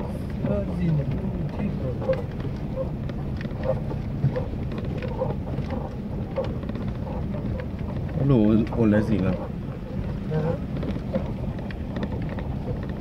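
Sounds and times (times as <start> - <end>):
engine and tyre rumble: 0.0 - 13.0
vehicle rattles and knocks: 0.0 - 13.0.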